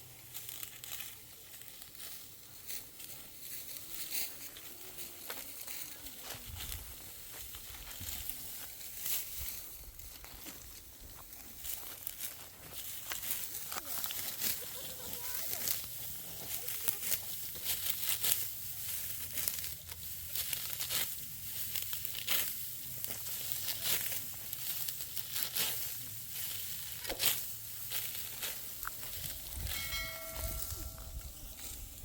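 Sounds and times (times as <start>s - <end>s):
crisp rustling and crackling: 0.0s - 32.0s.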